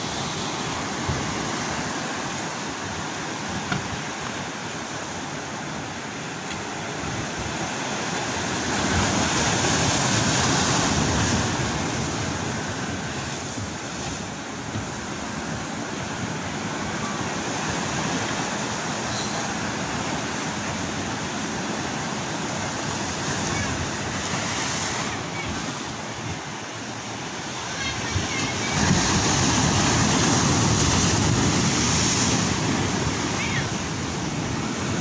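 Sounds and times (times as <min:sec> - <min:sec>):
sea surf washing on concrete: 0:00.0 - 0:35.0.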